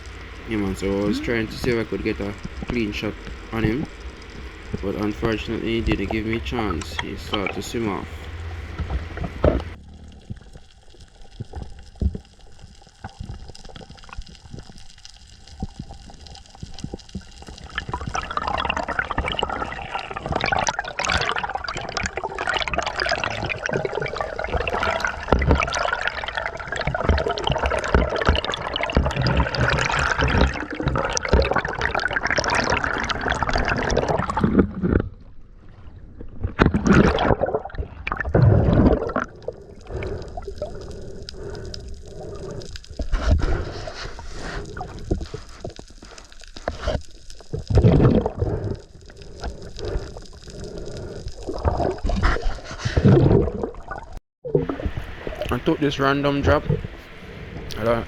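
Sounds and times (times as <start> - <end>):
water sloshing and bubbling: 0.0 - 58.0.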